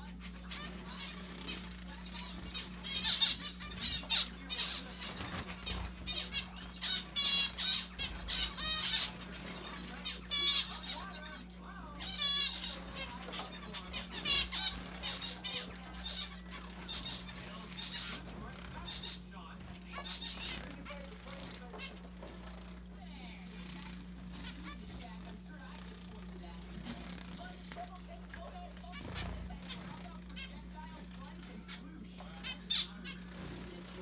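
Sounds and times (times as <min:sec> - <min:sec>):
finches chirping: 0:00.0 - 0:34.0.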